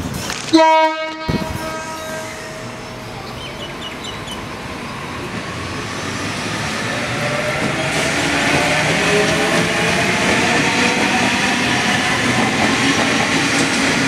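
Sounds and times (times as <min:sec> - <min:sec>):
electric train pulling away: 0:01.3 - 0:14.0.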